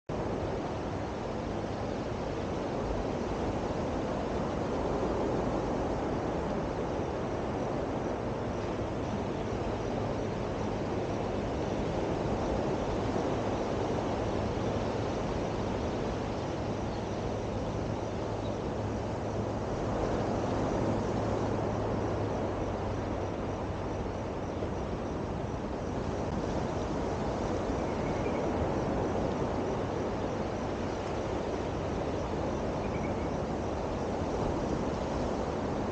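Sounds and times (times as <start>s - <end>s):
wind: 0.0s - 35.9s
sea surf: 0.1s - 35.9s.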